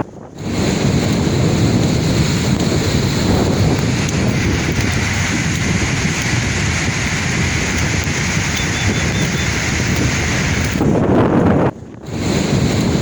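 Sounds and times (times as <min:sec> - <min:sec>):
sea waves washing: 0:00.0 - 0:11.1, 0:12.0 - 0:13.0
wind buffeting microphone: 0:00.0 - 0:13.0.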